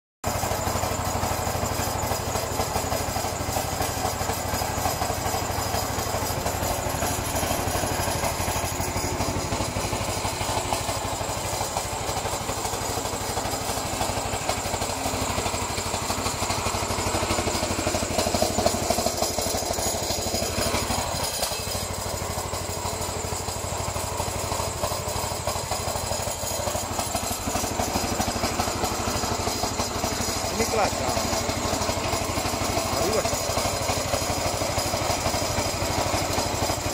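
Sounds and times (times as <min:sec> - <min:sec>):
lawn mower engine running: 0:00.2 - 0:36.9.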